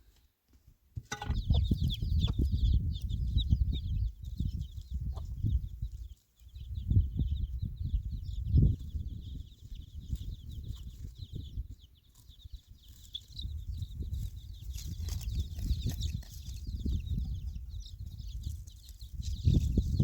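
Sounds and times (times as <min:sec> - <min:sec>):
birds chirping: 0:01.1 - 0:20.0.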